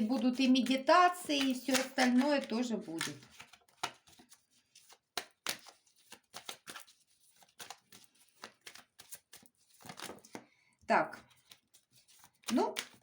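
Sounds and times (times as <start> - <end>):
cards being shuffled: 0.0 - 10.5, 11.1 - 13.0.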